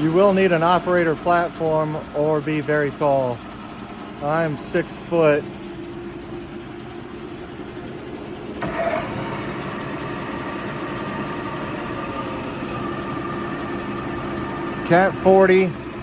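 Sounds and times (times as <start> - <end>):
milling machine hum: 0.0 - 16.0
spindle whine: 0.0 - 16.0.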